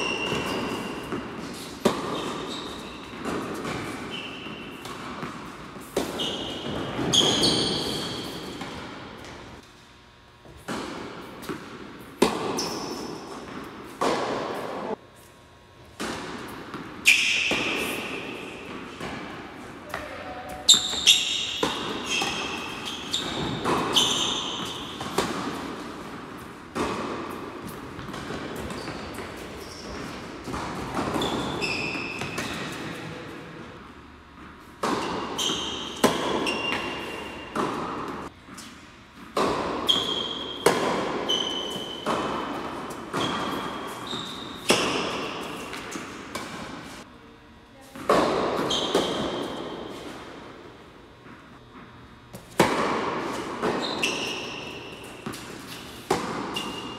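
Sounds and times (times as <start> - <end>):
tennis ball bounces: 0.0 - 9.4, 10.4 - 14.9, 15.9 - 33.1, 34.4 - 46.8, 51.8 - 56.9
sneakers squeaking on court: 0.0 - 9.6, 10.5 - 15.2, 16.0 - 47.0, 48.0 - 50.1, 51.6 - 56.9
tennis racket strokes: 0.0 - 9.7, 10.4 - 47.1, 52.4 - 56.9.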